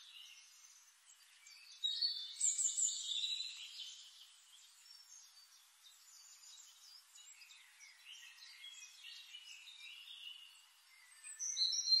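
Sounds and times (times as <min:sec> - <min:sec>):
soft hiss: 0:00.0 - 0:11.8
small birds chirping: 0:00.0 - 0:12.0.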